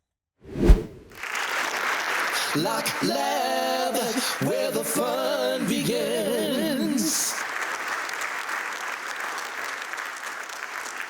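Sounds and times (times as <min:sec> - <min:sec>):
crowd applauding: 0:01.1 - 0:11.0.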